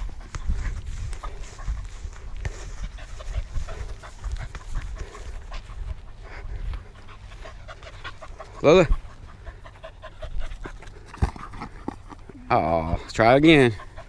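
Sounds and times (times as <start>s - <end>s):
dog panting rapidly: 0.0s - 14.0s.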